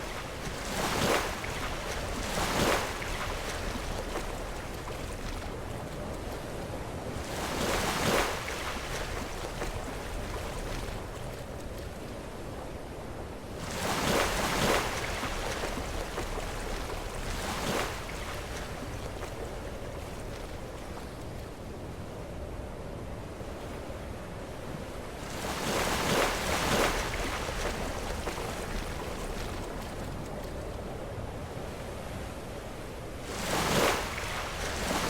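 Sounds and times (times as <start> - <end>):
surf wash: 0.0 - 35.0.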